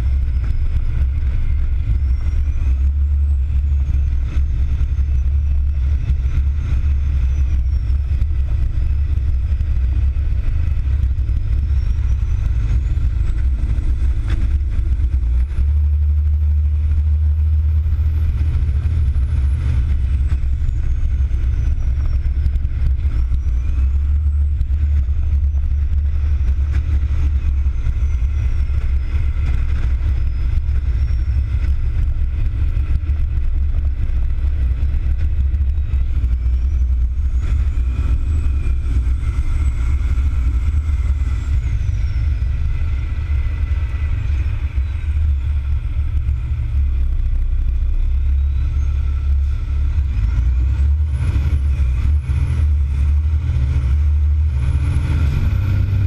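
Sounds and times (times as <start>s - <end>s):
truck diesel engine drone: 0.0s - 56.0s
wind outside cab: 0.0s - 56.0s.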